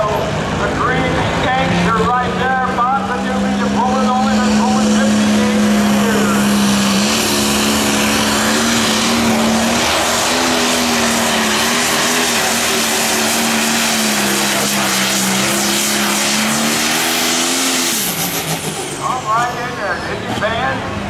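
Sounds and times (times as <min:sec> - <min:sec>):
diesel engine running flat out: 0:00.0 - 0:21.0.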